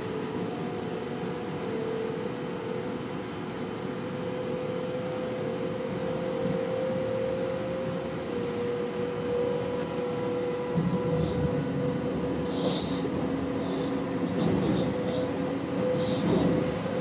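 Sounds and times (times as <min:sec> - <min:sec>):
train cab running noise: 0:00.0 - 0:17.0.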